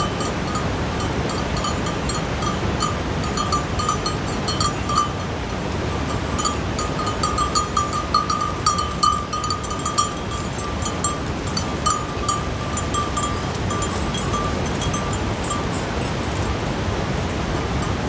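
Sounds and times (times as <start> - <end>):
goat bells clinking: 0.0 - 18.0
wind noise: 0.0 - 18.0.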